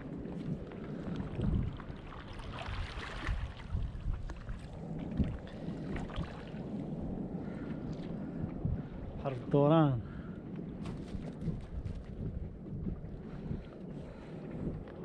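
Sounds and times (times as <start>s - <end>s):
sea water washing: 0.0s - 15.0s
wind buffeting microphone: 0.0s - 15.0s.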